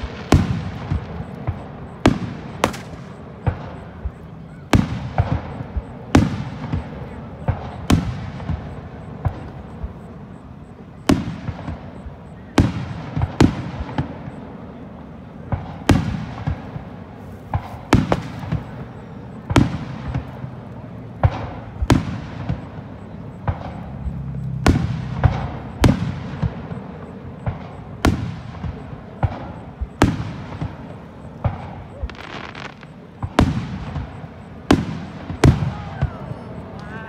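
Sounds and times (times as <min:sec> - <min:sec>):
firework shells booming: 0:00.0 - 0:36.9
firework crackling: 0:00.0 - 0:37.0.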